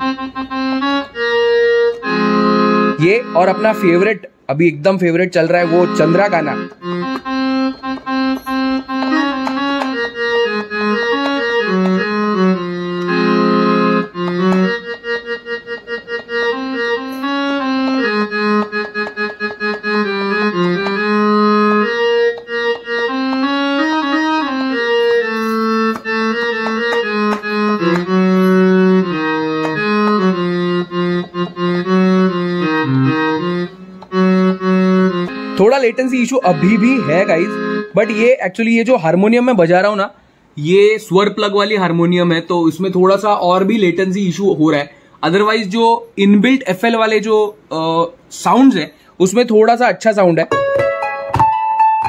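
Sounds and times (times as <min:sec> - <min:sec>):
lower harmonium notes: 0:00.0 - 0:49.0
harmonium melody of held notes: 0:00.0 - 0:49.7, 0:50.4 - 0:52.0.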